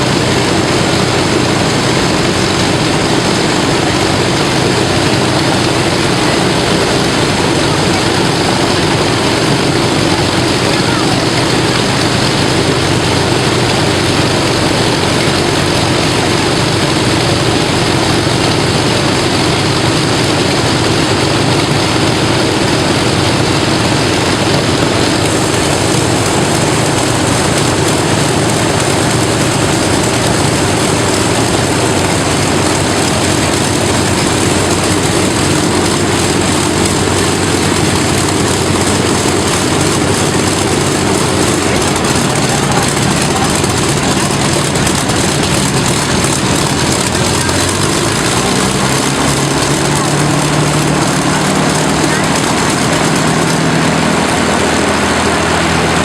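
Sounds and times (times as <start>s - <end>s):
propeller aircraft engines: 0.0s - 56.0s.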